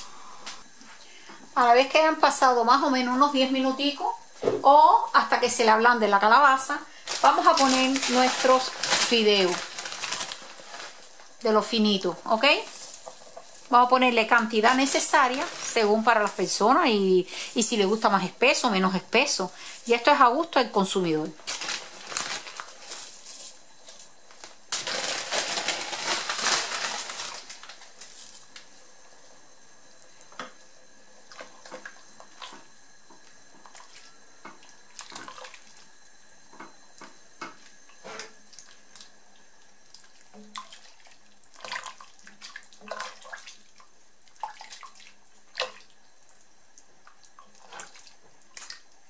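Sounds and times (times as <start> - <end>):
broth sloshing in a pot: 4.2 - 49.0.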